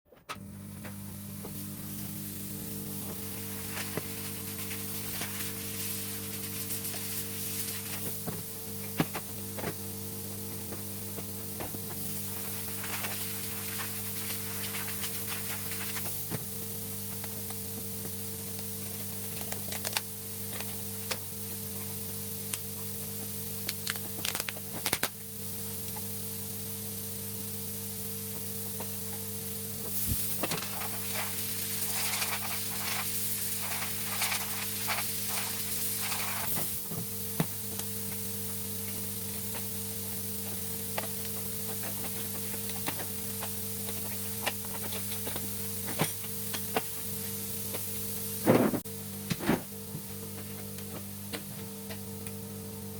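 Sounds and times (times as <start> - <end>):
steady low hum: 0.2 - 52.9.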